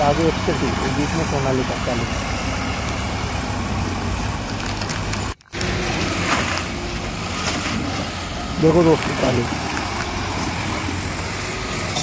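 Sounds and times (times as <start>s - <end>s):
diesel tractor engines rumbling: 0.0s - 12.0s.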